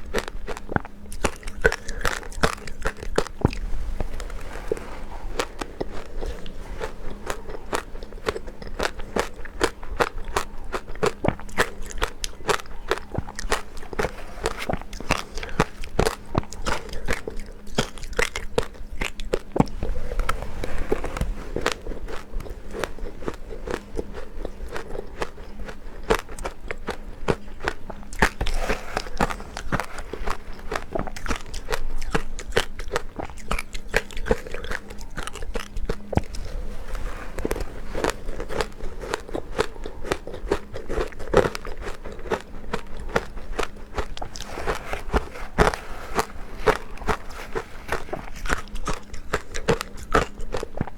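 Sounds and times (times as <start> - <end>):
chewing crunchy ice: 0.0 - 50.9.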